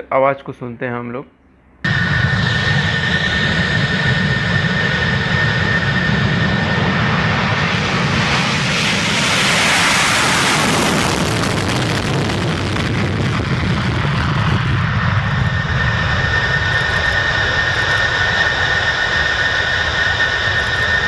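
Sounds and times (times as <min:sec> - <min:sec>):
jet engine low rumble: 0:01.4 - 0:21.0
high jet engine whine: 0:01.6 - 0:21.0
rushing noise of passing jet: 0:01.8 - 0:21.0.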